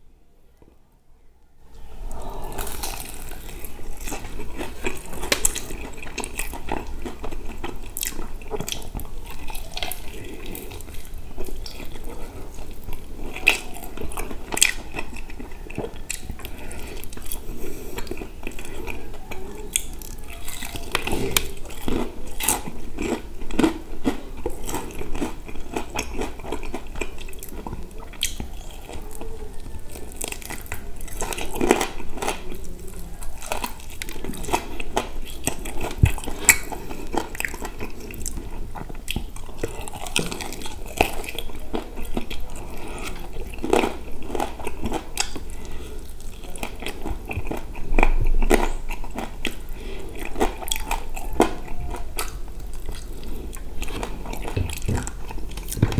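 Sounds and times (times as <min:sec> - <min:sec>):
crunchy chewing: 0:02.1 - 0:55.9.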